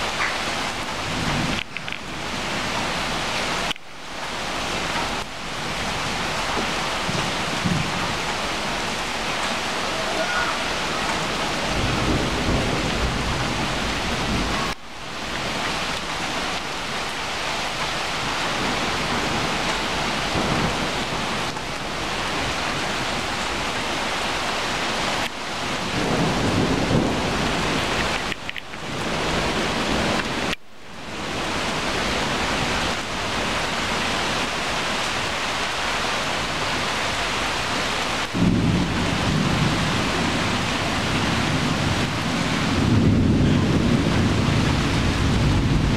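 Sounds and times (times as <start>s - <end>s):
heavy rain on pavement and leaves: 0.0s - 45.9s.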